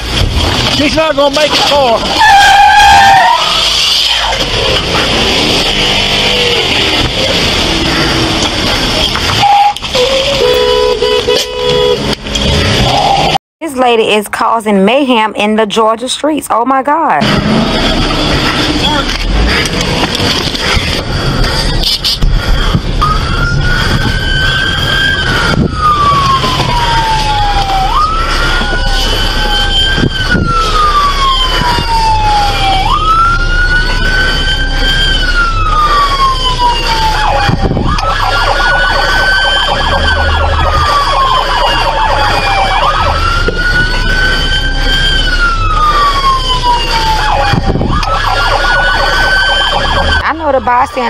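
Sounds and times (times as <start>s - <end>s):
car engine rumble: 0.0s - 13.4s, 17.2s - 51.0s
police siren wailing: 0.0s - 13.4s, 17.2s - 51.0s.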